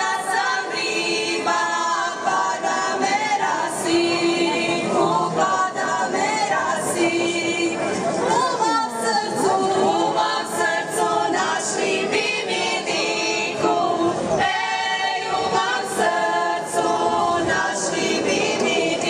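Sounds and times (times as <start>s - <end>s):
women singing folk song in harmony: 0.0s - 19.0s.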